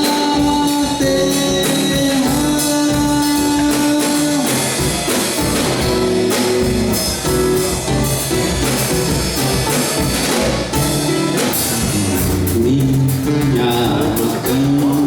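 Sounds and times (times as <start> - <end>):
drum kit samba beat: 0.0 - 15.0
guitar: 0.0 - 15.0
samba band playing: 0.0 - 15.0.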